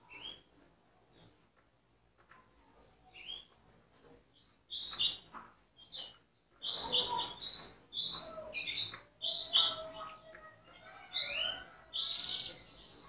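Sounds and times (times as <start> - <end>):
canaries chirping: 0.0 - 1.4, 2.2 - 13.0.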